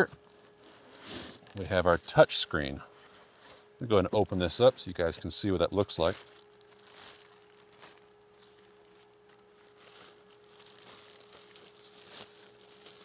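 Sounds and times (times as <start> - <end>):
faint steady hum: 0.0 - 13.0
plastic wrapping rustling: 0.0 - 13.0.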